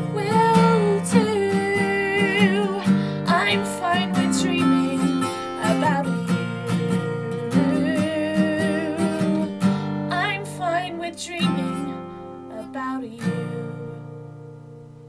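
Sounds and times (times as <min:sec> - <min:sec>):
person singing with vibrato: 0:00.0 - 0:14.2
acoustic guitar strumming: 0:00.0 - 0:15.0.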